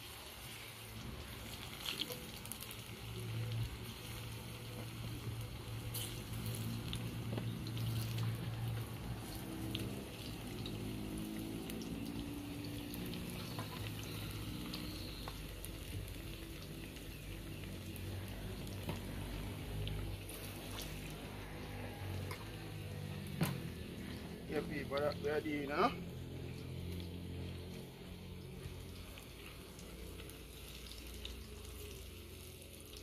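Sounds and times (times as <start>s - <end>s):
plantain frying in hot oil: 0.0s - 33.0s.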